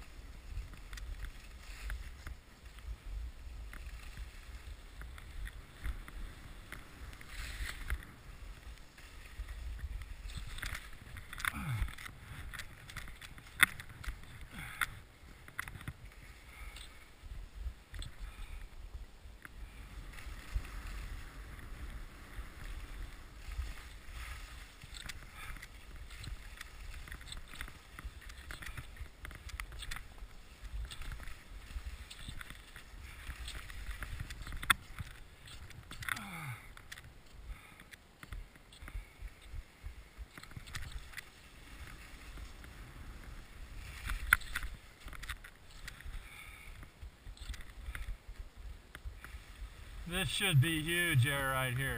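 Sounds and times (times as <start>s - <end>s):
skis scraping over snow: 0.0s - 36.0s, 38.3s - 51.9s.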